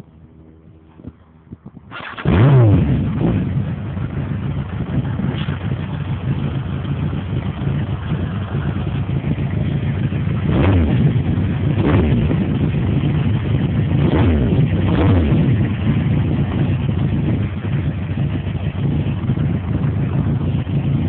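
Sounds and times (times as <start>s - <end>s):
motorcycle engine revving: 0.0s - 21.0s
wind buffeting microphone: 0.0s - 21.0s
motorcycle engine idling: 2.8s - 21.0s.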